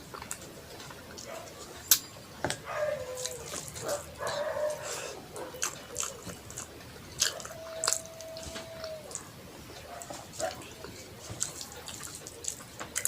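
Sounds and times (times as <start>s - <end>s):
wet chewing and lip smacking: 0.0s - 2.0s, 2.6s - 13.0s.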